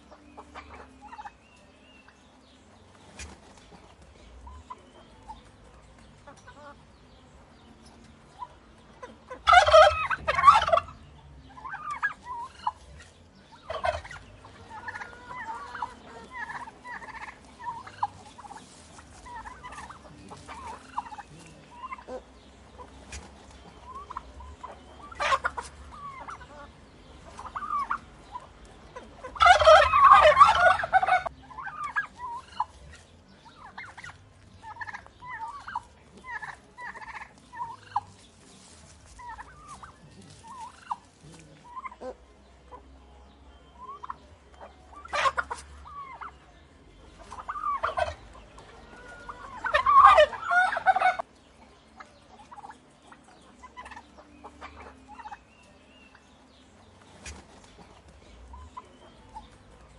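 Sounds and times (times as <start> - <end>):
turkey gobbling: 0.0 - 2.2, 2.8 - 6.8, 7.8 - 59.9
turkeys clucking and chirping: 0.0 - 59.9.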